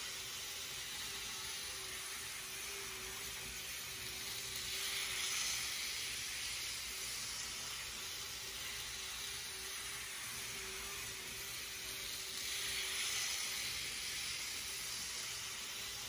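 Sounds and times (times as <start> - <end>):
model train motor and wheels hissing: 0.0 - 16.0.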